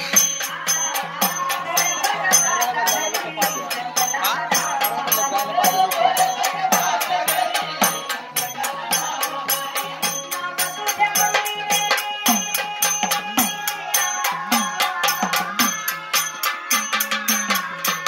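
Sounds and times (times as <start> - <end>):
hand drum: 0.0 - 18.0
jingling percussion beat: 0.0 - 18.0.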